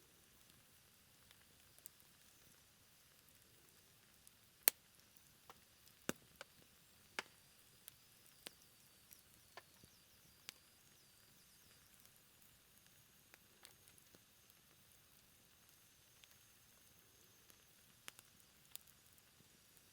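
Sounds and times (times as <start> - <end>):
campfire crackling and popping: 0.0 - 19.9
faint hiss: 0.0 - 19.9.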